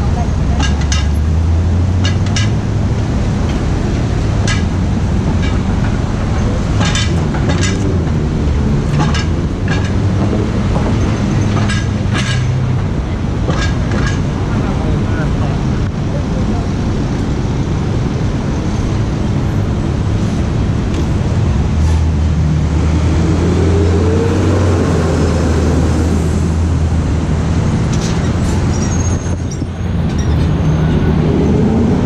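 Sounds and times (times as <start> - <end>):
city street traffic: 0.0 - 32.0
heavy vehicle engine hum passing: 0.0 - 32.0.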